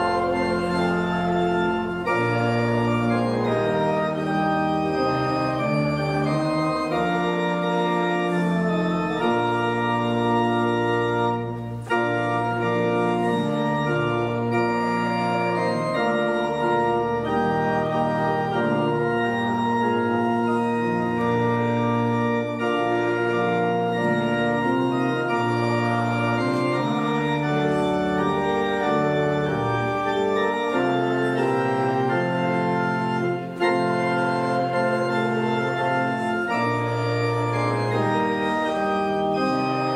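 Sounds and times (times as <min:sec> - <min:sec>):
church organ playing hymn: 0:00.0 - 0:39.9.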